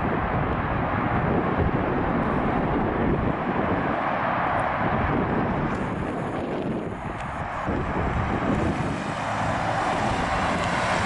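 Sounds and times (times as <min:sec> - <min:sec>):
car engine rumbling: 0:00.0 - 0:11.0
tyre and road noise: 0:00.0 - 0:11.0.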